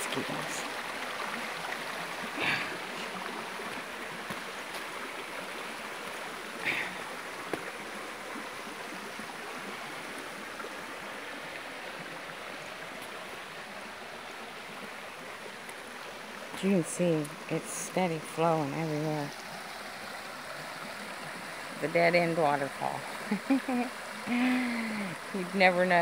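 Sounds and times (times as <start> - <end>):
river flowing over rocks: 0.0 - 26.0.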